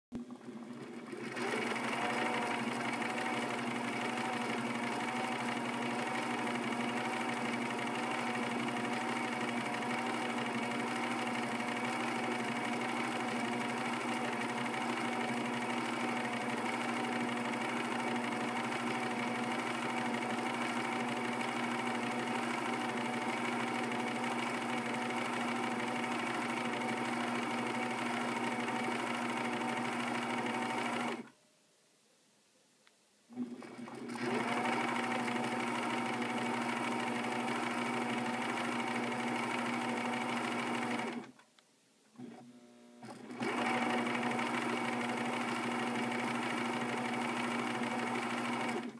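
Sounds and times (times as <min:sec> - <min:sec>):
sewing machine motor hum: 0:00.2 - 0:31.3, 0:33.3 - 0:41.4, 0:42.2 - 0:48.9.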